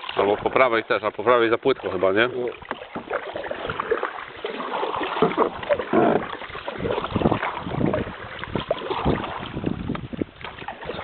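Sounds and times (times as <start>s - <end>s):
paddles splashing in water: 0.0s - 11.0s.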